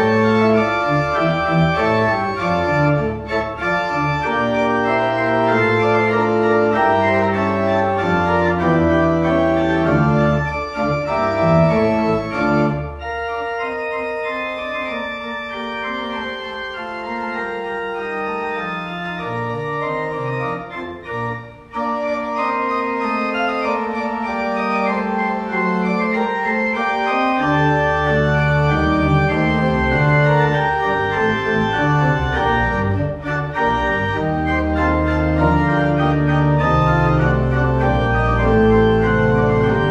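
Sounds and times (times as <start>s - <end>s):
deep organ pedal bass: 0.0s - 39.9s
pipe organ chords: 0.0s - 39.9s.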